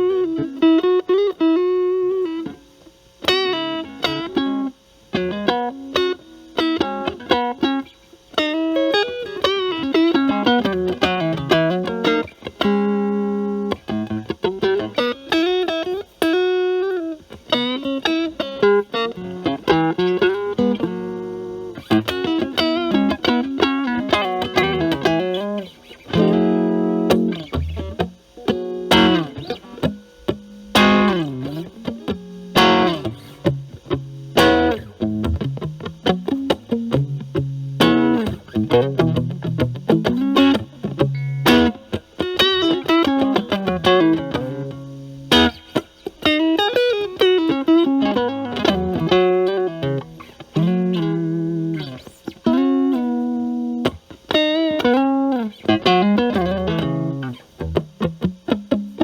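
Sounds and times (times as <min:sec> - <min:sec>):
overdriven electric guitar: 0:00.0 - 0:59.0.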